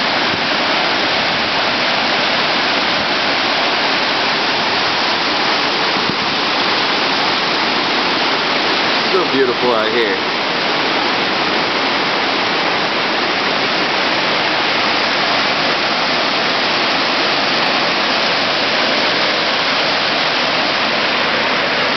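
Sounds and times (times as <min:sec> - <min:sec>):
river rapid rushing: 0:00.0 - 0:21.9.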